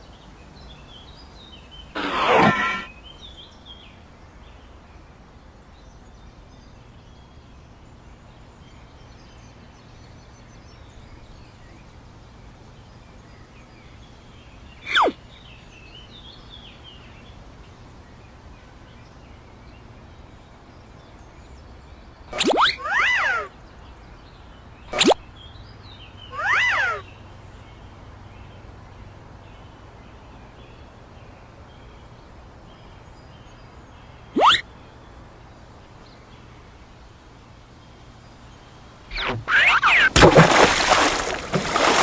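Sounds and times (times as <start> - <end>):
faint birdsong: 0.0 - 42.0.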